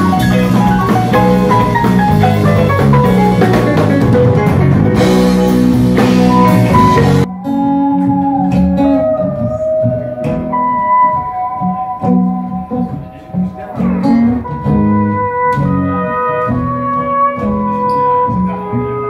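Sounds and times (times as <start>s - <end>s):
electric guitar bending notes: 0.0s - 19.0s
live band music: 0.0s - 19.0s.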